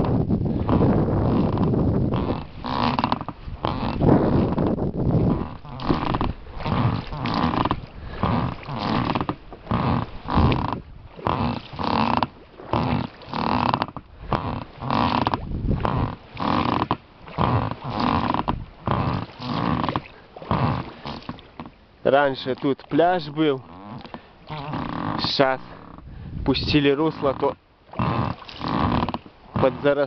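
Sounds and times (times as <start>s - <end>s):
oars rowing boat: 0.0s - 30.0s.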